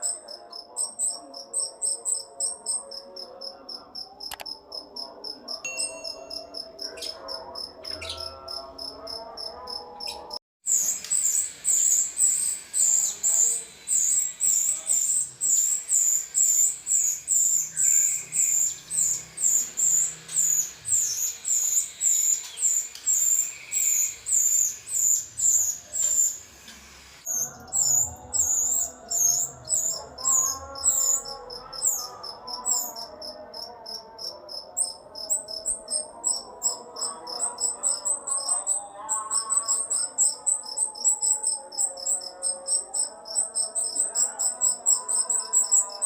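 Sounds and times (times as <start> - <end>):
bird chirping: 0.0 - 46.0.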